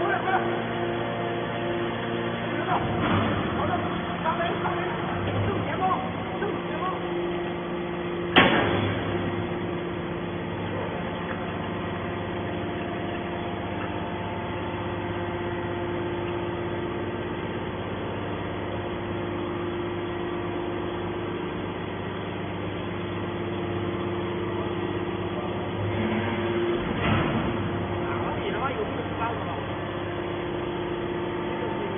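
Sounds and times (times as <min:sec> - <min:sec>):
hydraulic baler motor humming: 0:00.0 - 0:31.9.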